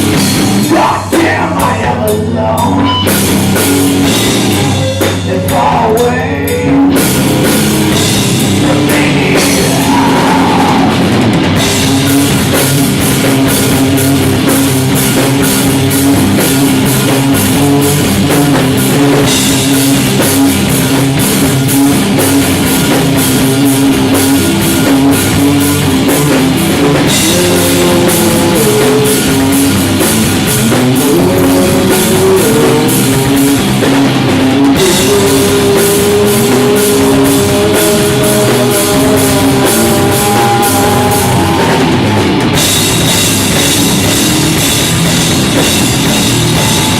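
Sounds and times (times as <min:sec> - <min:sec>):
distorted electric guitar: 0:00.0 - 0:46.9
drum kit with cymbal hits: 0:00.0 - 0:46.9.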